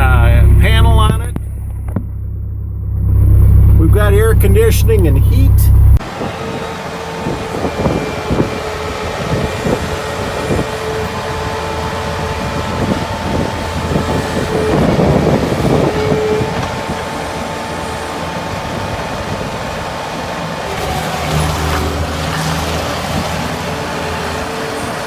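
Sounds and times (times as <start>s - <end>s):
steady whine: 0.0s - 20.2s
diesel engine running: 0.0s - 25.0s.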